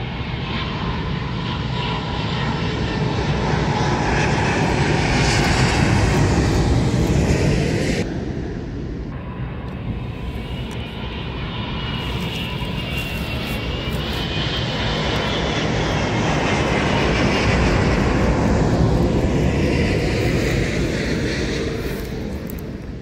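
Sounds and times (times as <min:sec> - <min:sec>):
high engine whine: 0:00.0 - 0:23.0
jet airliner passing overhead: 0:00.0 - 0:23.0.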